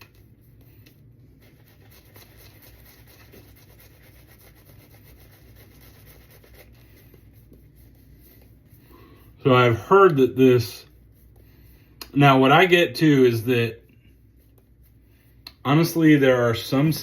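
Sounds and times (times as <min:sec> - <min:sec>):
shaving brush swishing lather: 0:00.0 - 0:17.0.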